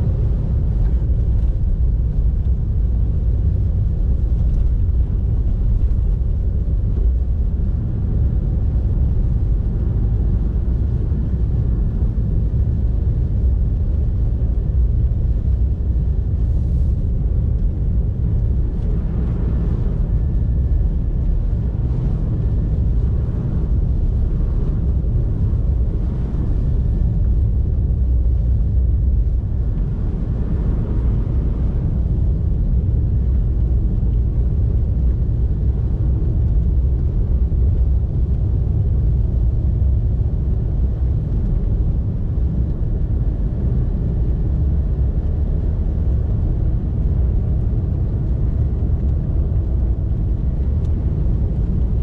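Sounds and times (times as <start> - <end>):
car driving on snowy road: 0.0 - 52.0.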